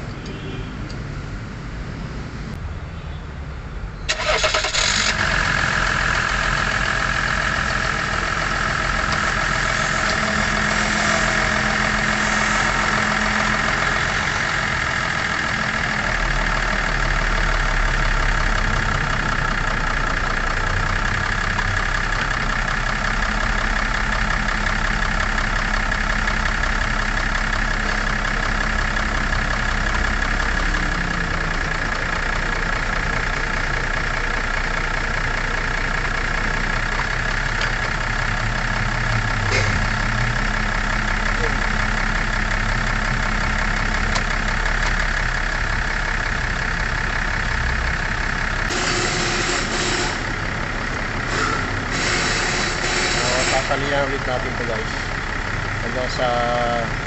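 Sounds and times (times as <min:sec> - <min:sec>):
car engine idling: 0:03.9 - 0:57.0.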